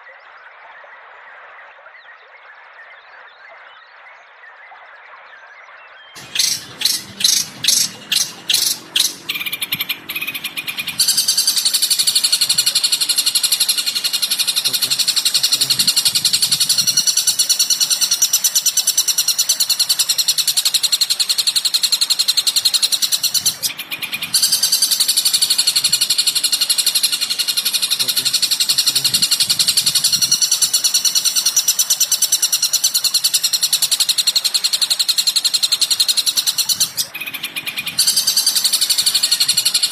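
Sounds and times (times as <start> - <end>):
bird calls and trill: 0.0 - 39.9.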